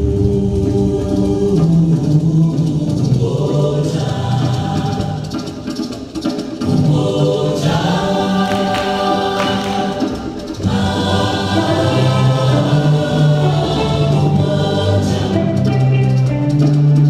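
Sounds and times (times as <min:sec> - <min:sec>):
choir singing held chords: 0:00.0 - 0:16.3.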